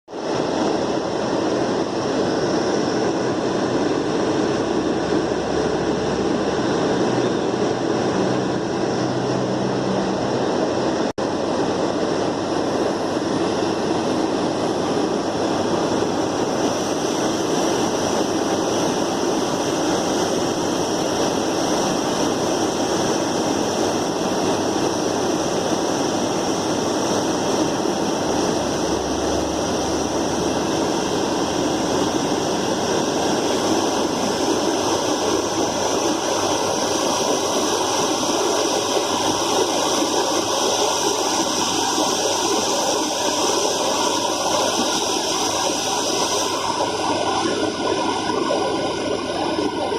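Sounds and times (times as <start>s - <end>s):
blowing air rushing: 0.1s - 49.9s.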